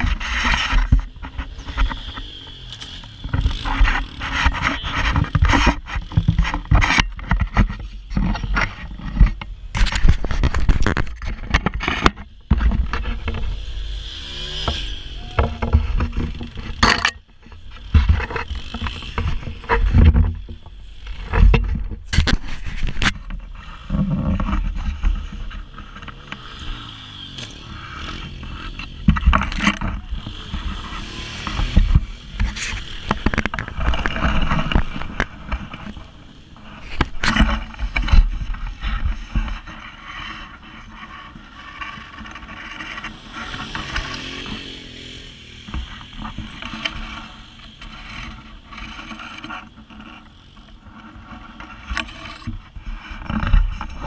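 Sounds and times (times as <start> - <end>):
knocks and scrapes: 0.0 - 54.0
off-road vehicle engine: 0.0 - 54.0.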